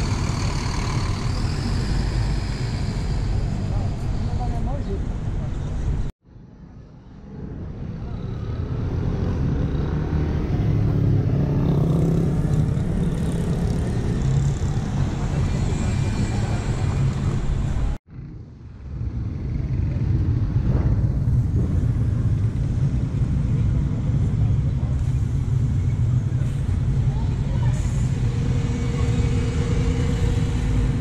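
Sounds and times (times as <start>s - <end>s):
bus diesel engine drone: 0.0s - 6.1s, 7.1s - 31.0s.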